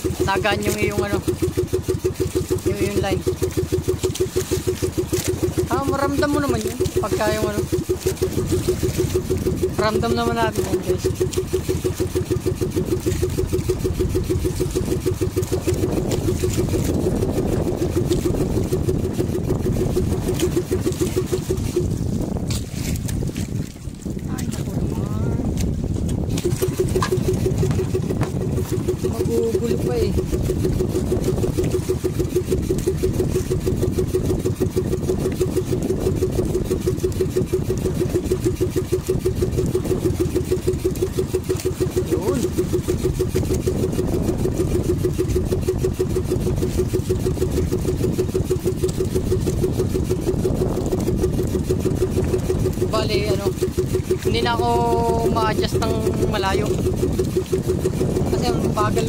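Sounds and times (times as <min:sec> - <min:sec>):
boat engine puttering: 0:00.0 - 0:59.0.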